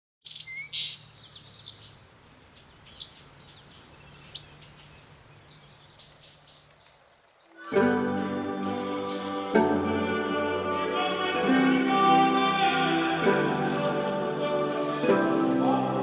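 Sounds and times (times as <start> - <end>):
birds chirping: 0.2 - 13.3.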